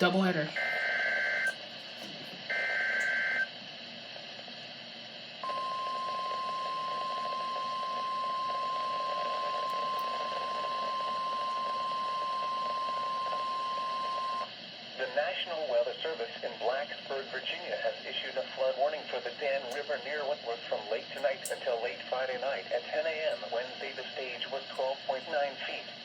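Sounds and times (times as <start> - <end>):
radio hiss: 0.0 - 26.0.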